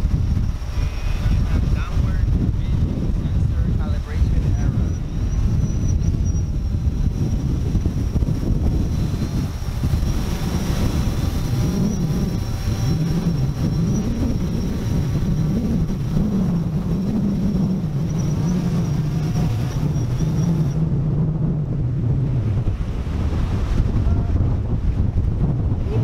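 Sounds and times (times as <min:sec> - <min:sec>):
drone propellers humming: 0:00.0 - 0:26.0
wind rumble on microphone: 0:00.0 - 0:26.0.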